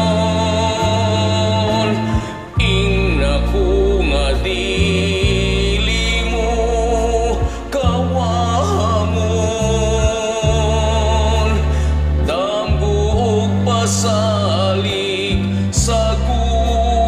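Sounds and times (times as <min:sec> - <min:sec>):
karaoke backing track: 0:00.0 - 0:17.0
man singing slow song: 0:00.0 - 0:17.0.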